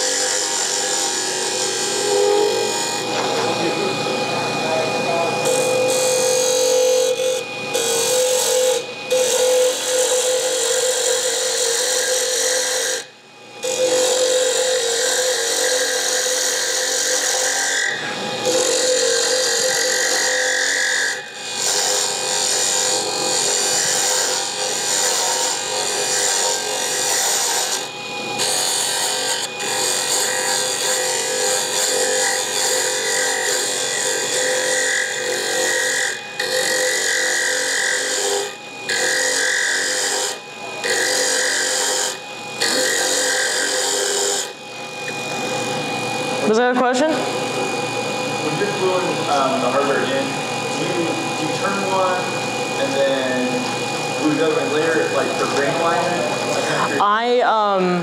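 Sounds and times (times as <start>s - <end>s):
lathe motor whine: 0.0s - 58.0s
lathe tool scraping wood: 0.0s - 58.0s.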